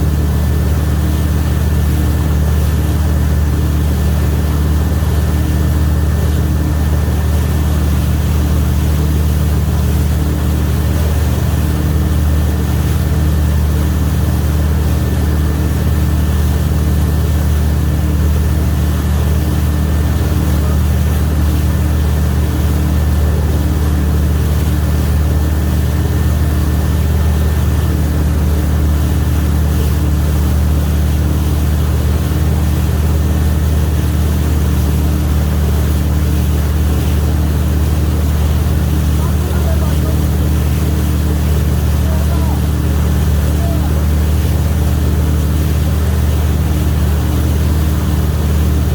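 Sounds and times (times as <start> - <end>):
boat engine droning: 0.0 - 48.9
water noise: 0.0 - 48.9.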